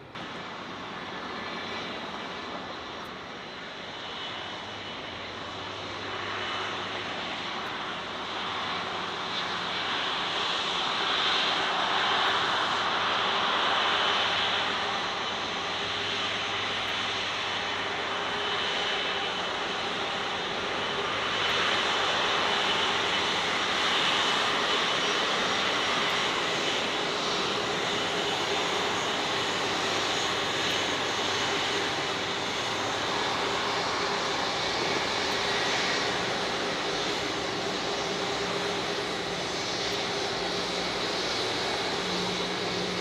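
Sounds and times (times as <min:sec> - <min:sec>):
jet engines whining: 0:00.0 - 0:43.0.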